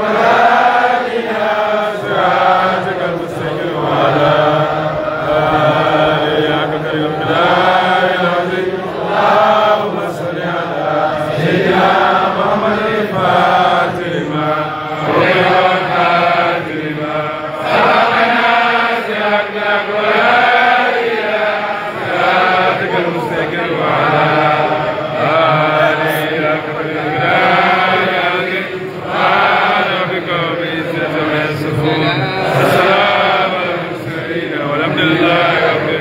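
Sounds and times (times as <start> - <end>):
men chanting together: 0.0 - 36.0.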